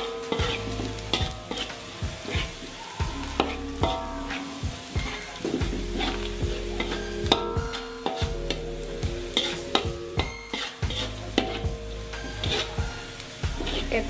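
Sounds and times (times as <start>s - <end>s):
metal spatula scraping a wok: 0.0s - 14.0s
oil sizzling: 0.0s - 14.0s.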